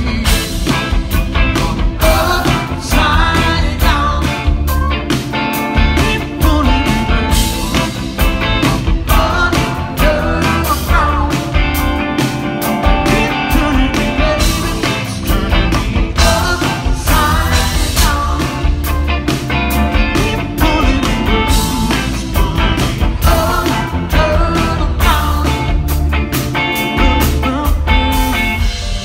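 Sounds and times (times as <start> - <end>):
man singing: 0.0 - 4.8, 5.6 - 19.0, 19.7 - 26.1, 26.7 - 28.8
live rock band playing: 0.0 - 29.0.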